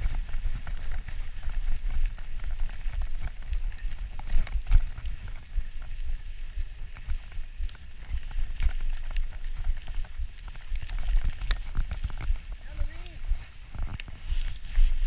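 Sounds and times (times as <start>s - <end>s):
bike knocking and rattling: 0.0s - 15.0s
wind and tyres rumbling: 0.0s - 15.0s.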